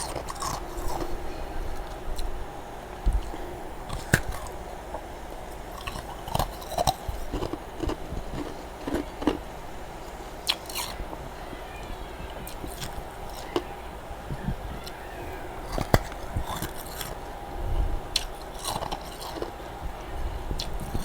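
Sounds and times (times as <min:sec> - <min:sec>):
frost crunching while chewed: 0:00.0 - 0:02.4, 0:03.0 - 0:15.0, 0:15.6 - 0:21.0.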